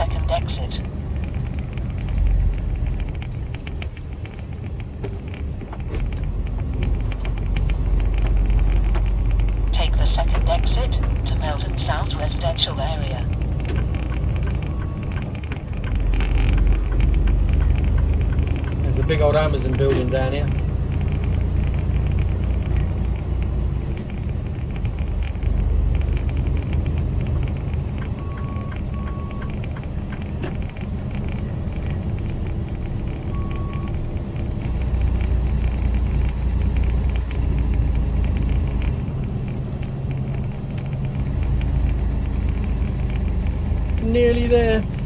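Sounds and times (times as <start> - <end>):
diesel engine rumble: 0.0 - 45.0
tyres on wet road: 0.0 - 45.0.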